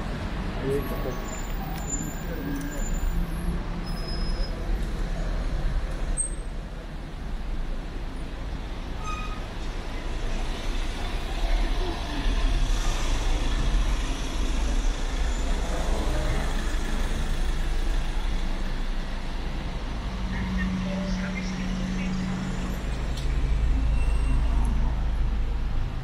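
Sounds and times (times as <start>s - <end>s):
cars and truck idling: 0.0s - 26.0s.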